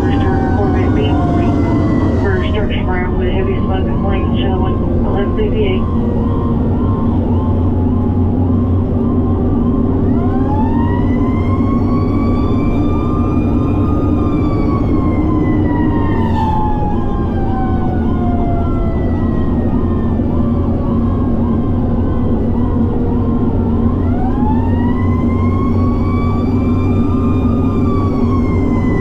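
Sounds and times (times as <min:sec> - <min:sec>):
engine and road rumble: 0:00.0 - 0:29.0
siren yelping: 0:00.0 - 0:29.0
wailing siren tone: 0:00.0 - 0:29.0.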